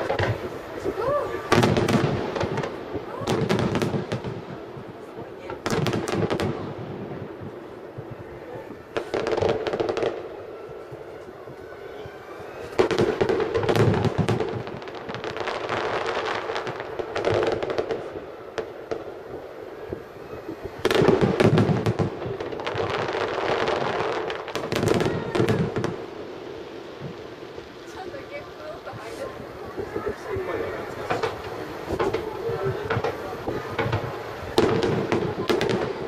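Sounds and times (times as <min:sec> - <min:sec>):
fireworks booming: 0:00.0 - 0:36.0
fireworks crackling: 0:00.0 - 0:36.0.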